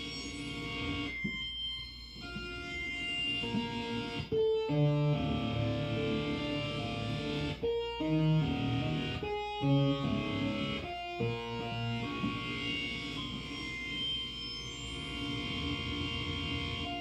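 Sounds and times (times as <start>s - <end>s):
distorted synth chords: 1.8s - 17.0s.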